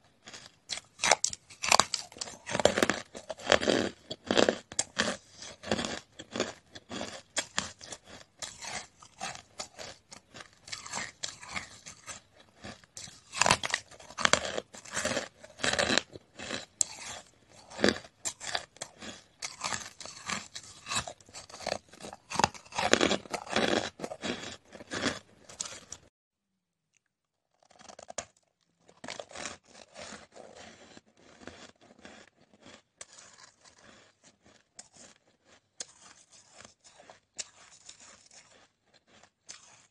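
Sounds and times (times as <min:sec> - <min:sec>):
ice being chewed: 0:00.1 - 0:26.1, 0:26.9 - 0:39.9.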